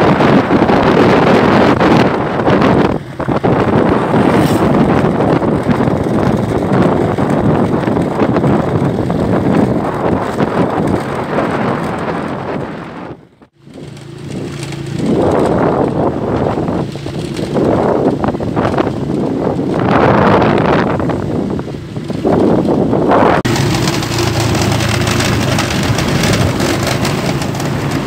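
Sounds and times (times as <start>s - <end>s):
vehicle engine running: 0.0s - 28.0s
wind buffeting microphone: 0.0s - 28.0s.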